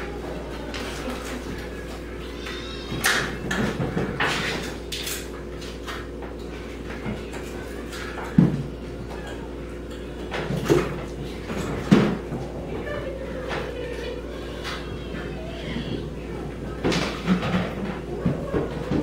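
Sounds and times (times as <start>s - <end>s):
dishes clattering: 0.7s - 19.0s.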